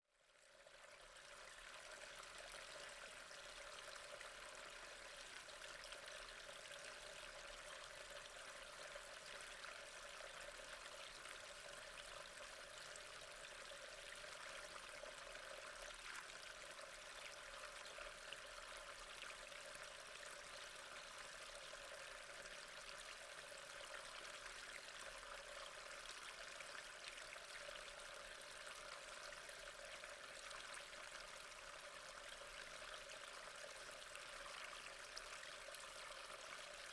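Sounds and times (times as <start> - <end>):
water trickling: 0.2 - 36.9.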